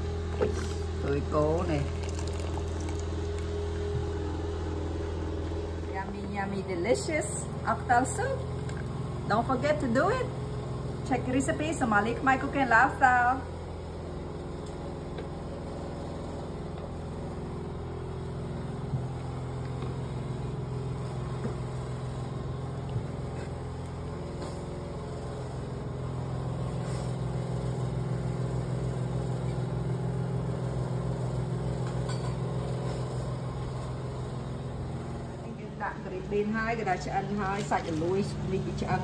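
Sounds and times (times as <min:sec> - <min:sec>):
low mechanical hum: 0:00.0 - 0:39.0.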